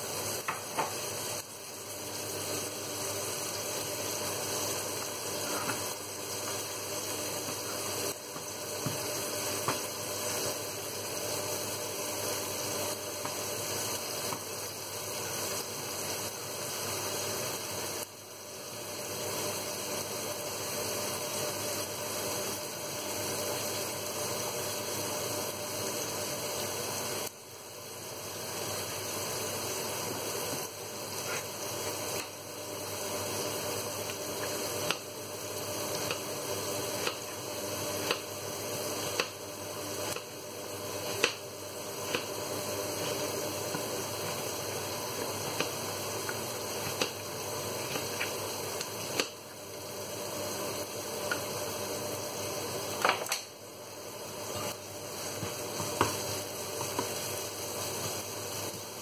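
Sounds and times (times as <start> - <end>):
onions sizzling in a frying pan: 0.0 - 59.0
pot boiling: 0.0 - 59.0.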